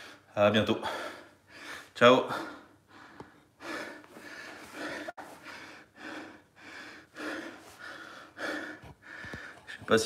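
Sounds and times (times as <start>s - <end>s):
man breathing hard: 0.0s - 9.8s.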